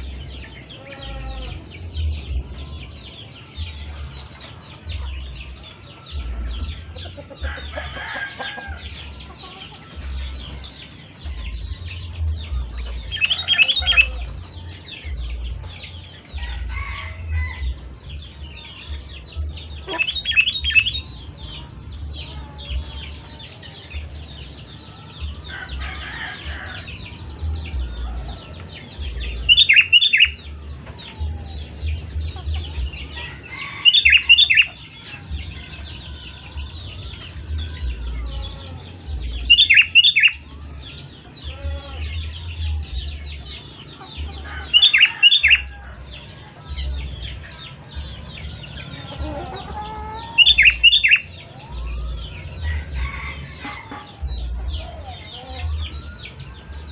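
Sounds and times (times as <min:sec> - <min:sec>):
faint high chirping: 0:00.0 - 0:56.9.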